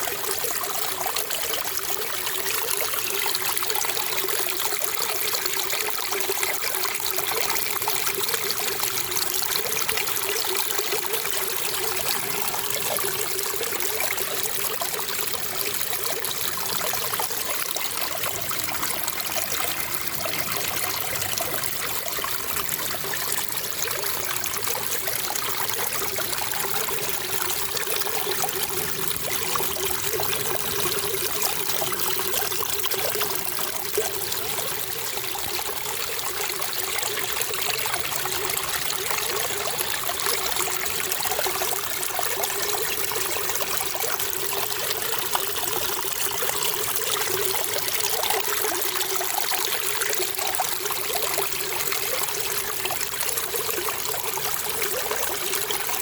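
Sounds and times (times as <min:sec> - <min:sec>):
running water flowing: 0:02.5 - 0:56.0.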